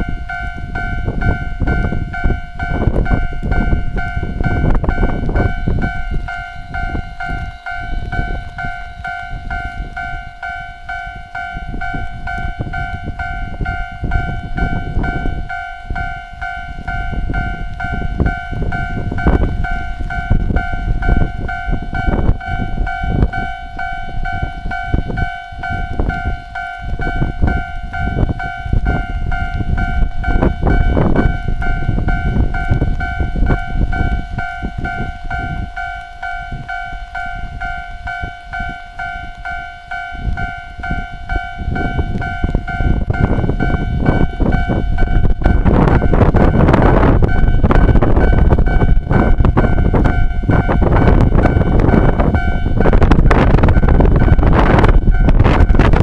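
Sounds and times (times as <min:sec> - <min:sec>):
gusting low rumble: 0:00.0 - 0:56.0
level crossing warning bell: 0:00.0 - 0:56.0.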